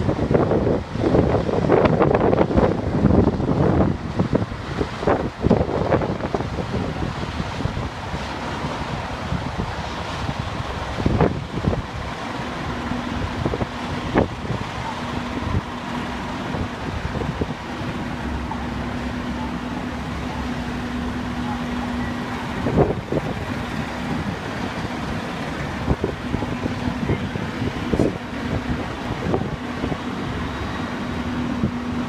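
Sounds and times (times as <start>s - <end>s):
fire engines droning: 0.0s - 32.0s
wind noise: 0.0s - 32.0s.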